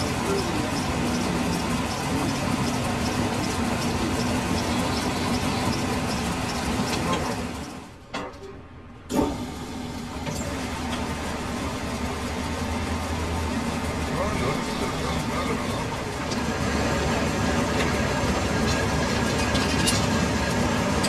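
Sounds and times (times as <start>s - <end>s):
metal lathe running: 0.0s - 8.0s, 9.1s - 21.0s.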